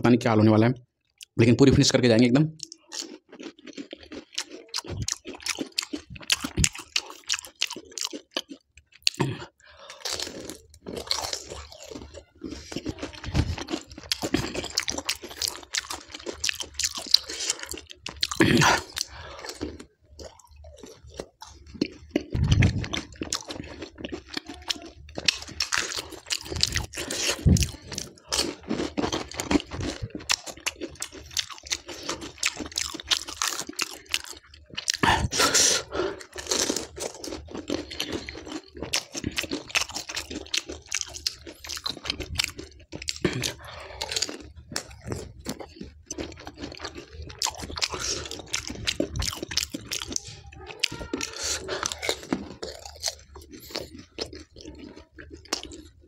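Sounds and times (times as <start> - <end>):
crisp shells crunching in mouth: 2.6 - 9.3, 9.9 - 56.0
wet chewing: 2.6 - 56.0.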